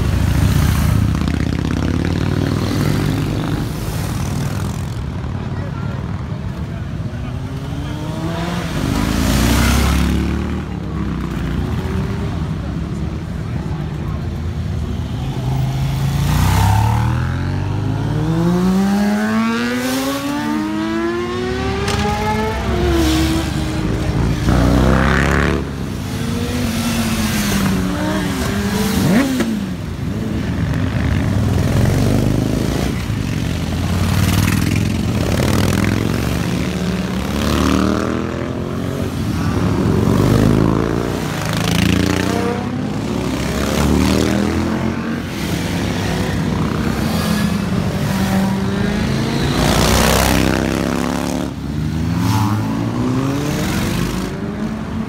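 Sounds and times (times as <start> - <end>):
motorcycles revving and passing: 0.0 - 55.0.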